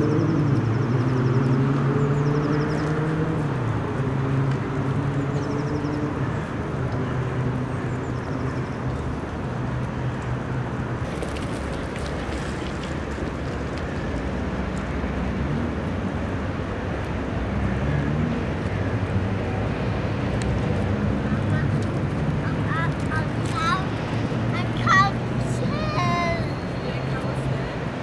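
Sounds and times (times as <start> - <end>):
city traffic noise: 0.0 - 28.0
vehicle engine humming: 0.0 - 28.0.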